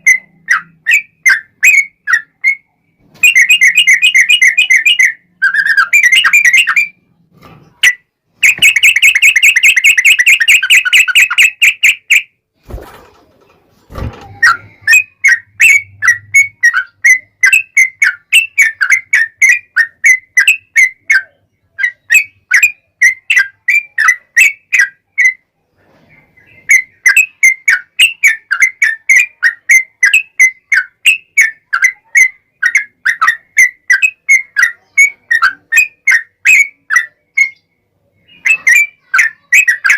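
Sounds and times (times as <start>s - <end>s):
bird trilling and chirping: 0.0s - 12.3s, 13.9s - 25.4s, 26.1s - 39.9s.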